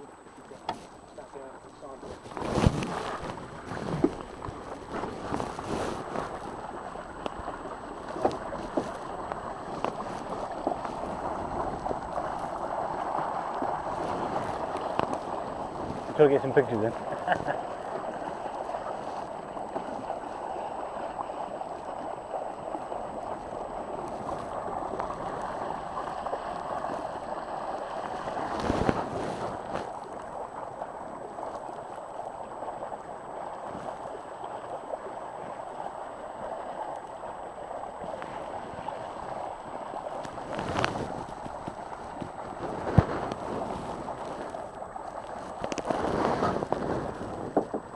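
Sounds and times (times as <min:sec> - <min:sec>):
water rushing along boat hull: 0:00.0 - 0:47.9.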